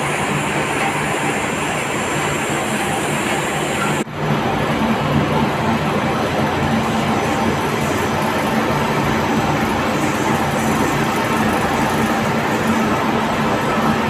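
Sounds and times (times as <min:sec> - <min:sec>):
production line machinery: 0:00.0 - 0:14.0.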